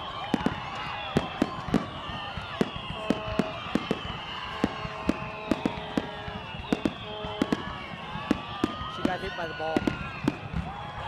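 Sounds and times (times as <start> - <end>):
outdoor crowd noise: 0.0 - 11.0.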